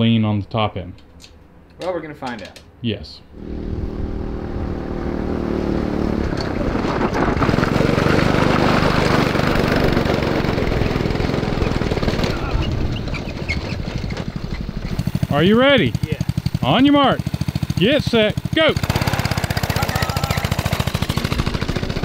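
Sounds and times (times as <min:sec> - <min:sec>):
go-kart engine driving by: 0:03.4 - 0:22.0.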